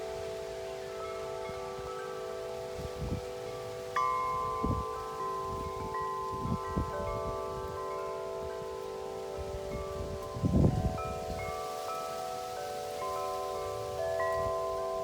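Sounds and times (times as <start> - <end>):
wind chime ringing: 0.0 - 15.0
wind gusts on microphone: 0.0 - 15.0.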